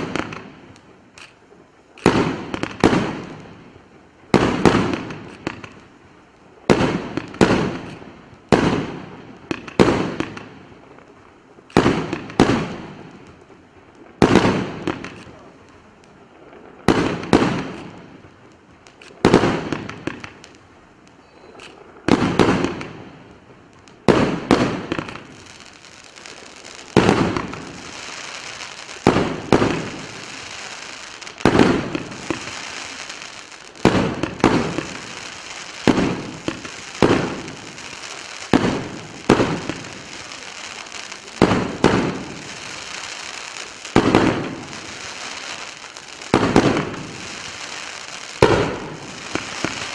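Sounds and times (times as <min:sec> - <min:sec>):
fireworks bangs: 0:00.0 - 0:49.9
fireworks crackling: 0:00.0 - 0:49.9.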